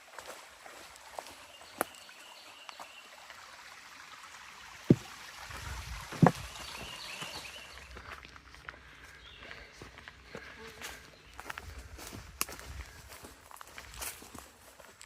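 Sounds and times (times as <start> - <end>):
footsteps on trail: 0.0 - 3.0, 4.9 - 15.0.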